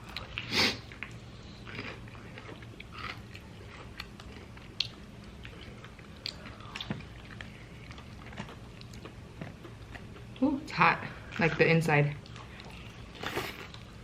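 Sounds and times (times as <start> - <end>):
wet chewing sounds: 0.0 - 14.0.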